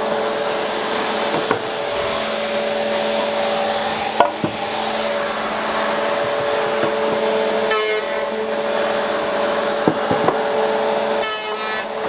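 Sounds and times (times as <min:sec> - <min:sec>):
biscuit joiner motor whine: 0:00.0 - 0:12.0.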